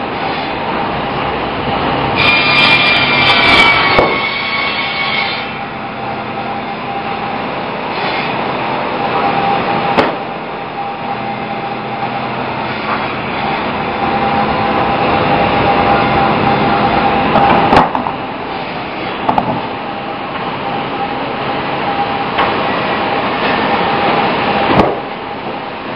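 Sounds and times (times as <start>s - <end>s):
band saw whining: 0.2s - 25.9s.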